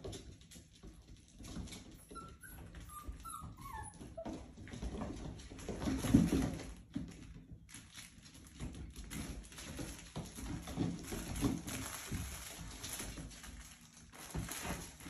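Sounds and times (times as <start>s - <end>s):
puppy paws pattering on hard floor: 0.0s - 15.0s.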